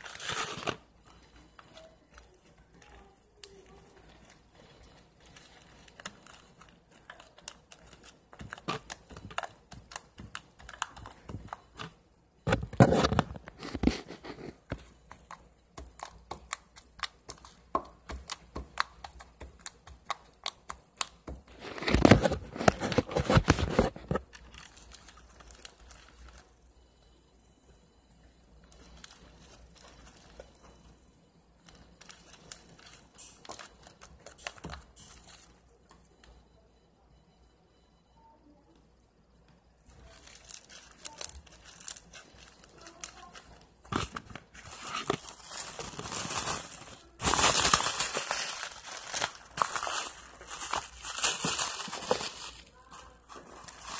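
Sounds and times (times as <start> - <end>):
slime squishing with sticky pops: 0.0 - 26.6, 31.6 - 36.3, 39.8 - 53.9.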